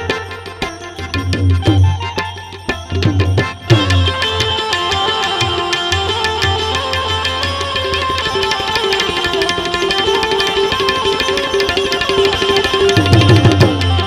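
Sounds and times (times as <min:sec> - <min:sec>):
tabla drumming: 0:00.0 - 0:14.0.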